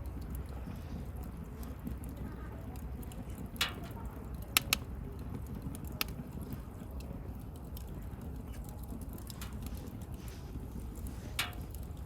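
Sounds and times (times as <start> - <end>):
bonfire crackling and popping: 0.0 - 12.0
low rumble of burning fire: 0.0 - 12.0.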